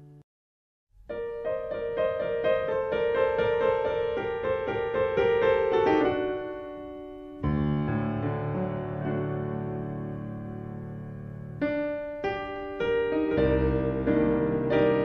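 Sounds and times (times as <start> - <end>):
piano music: 1.0 - 15.0.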